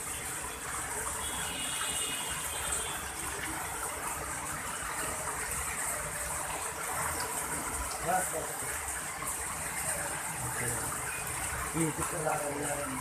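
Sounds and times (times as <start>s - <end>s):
rain falling steadily: 0.0s - 13.0s.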